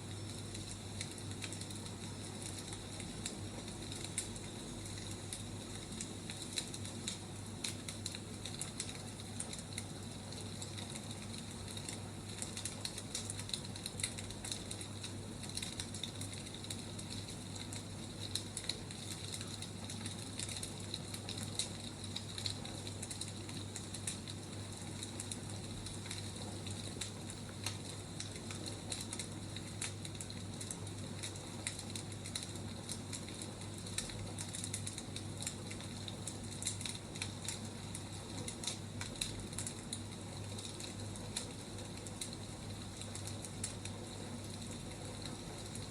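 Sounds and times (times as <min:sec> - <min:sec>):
firewood crackling and popping: 0:00.0 - 0:45.9.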